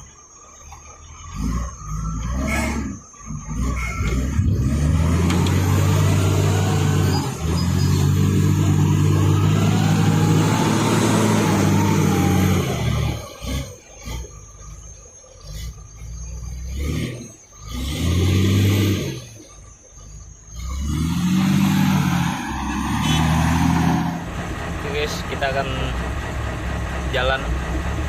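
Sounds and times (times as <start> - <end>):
diesel truck engine revving: 0.0 - 28.0.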